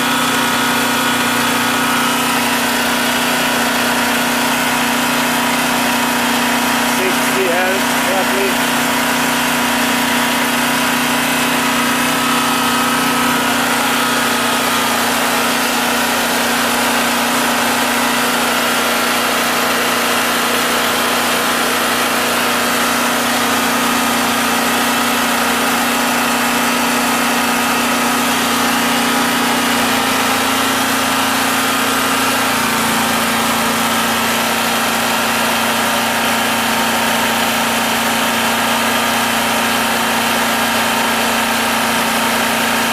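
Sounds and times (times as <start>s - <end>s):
portable generator engine running: 0.0s - 42.9s.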